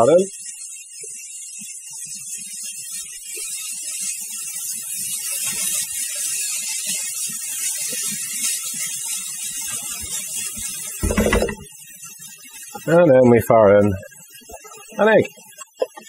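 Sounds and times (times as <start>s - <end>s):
rice sizzling in a wok: 0.0s - 11.0s, 11.7s - 16.0s.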